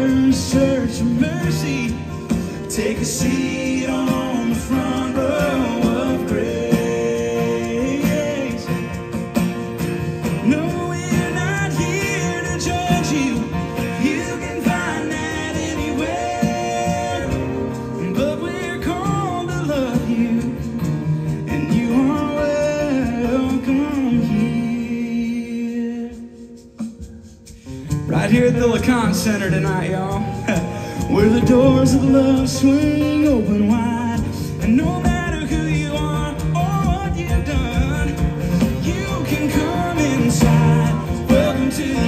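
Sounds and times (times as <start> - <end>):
man singing: 0.0 - 9.4, 10.2 - 26.8, 27.9 - 42.0
acoustic guitars: 0.0 - 42.0.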